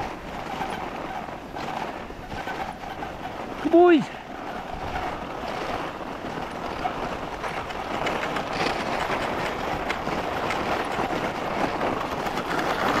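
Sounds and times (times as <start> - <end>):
skis scraping over snow: 0.0 - 13.0.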